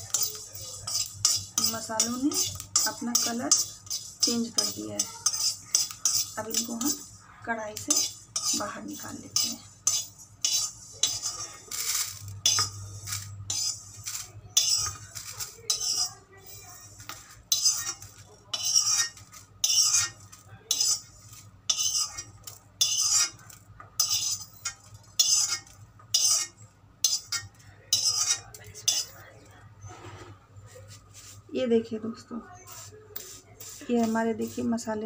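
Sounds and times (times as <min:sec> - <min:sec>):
metal spoon scraping metal pan: 0:00.0 - 0:29.2, 0:32.7 - 0:35.0.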